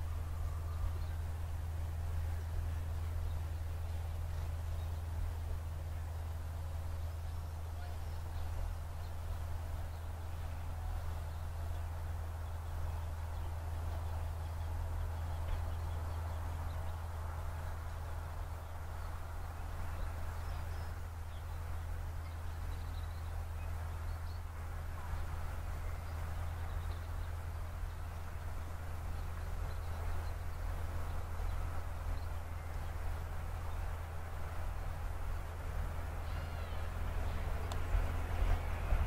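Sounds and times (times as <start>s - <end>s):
distant train rumble: 0.0s - 39.0s.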